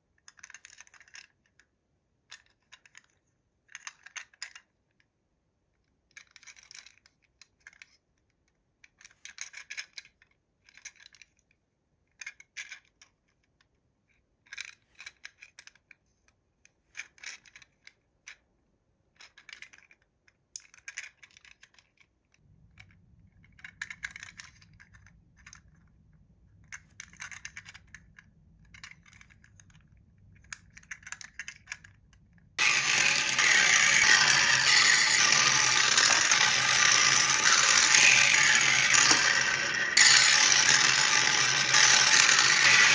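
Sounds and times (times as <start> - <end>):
small plastic clicks and rattles: 0.0 - 42.9.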